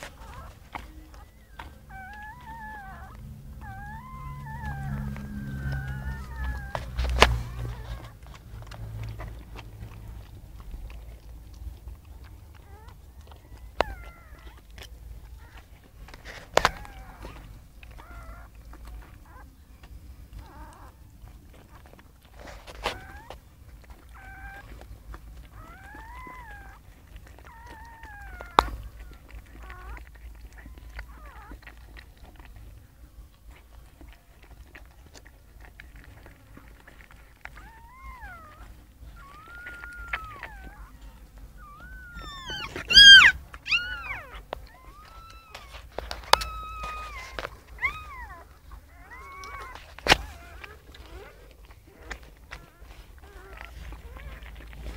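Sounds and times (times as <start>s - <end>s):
puppies squealing: 0.0s - 54.9s.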